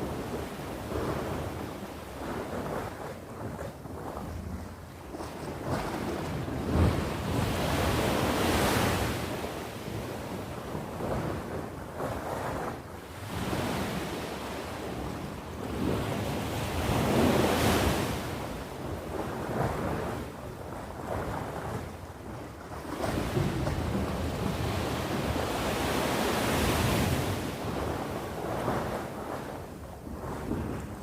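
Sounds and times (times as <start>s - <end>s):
sea waves breaking on shore: 0.0s - 31.0s.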